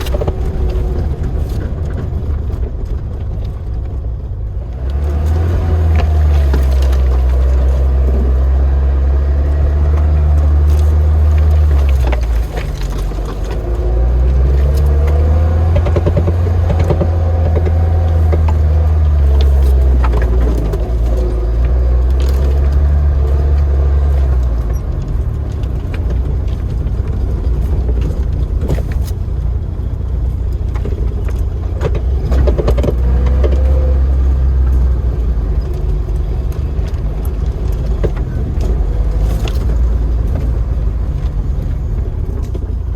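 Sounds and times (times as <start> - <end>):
car engine drone: 0.0 - 42.9
knocks and rattles: 0.0 - 42.9.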